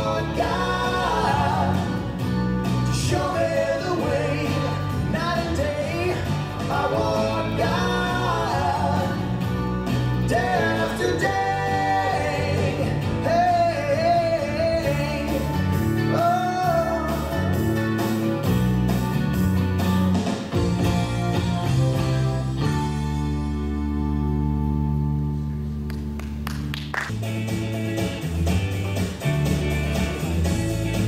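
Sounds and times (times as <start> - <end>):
song with singer and guitar: 0.0 - 31.0.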